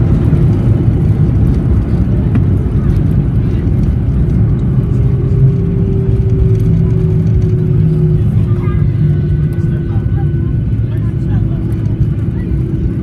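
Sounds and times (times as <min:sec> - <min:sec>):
low rumble of engines and airframe: 0:00.0 - 0:13.0.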